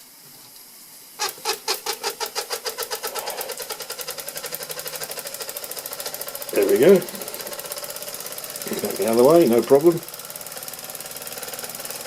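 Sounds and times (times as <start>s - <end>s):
toy steam engine exhaust beats: 1.1s - 12.0s.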